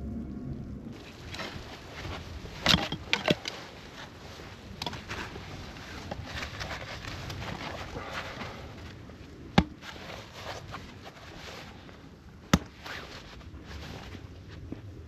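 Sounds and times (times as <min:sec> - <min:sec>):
steady rustling: 0:00.7 - 0:15.0.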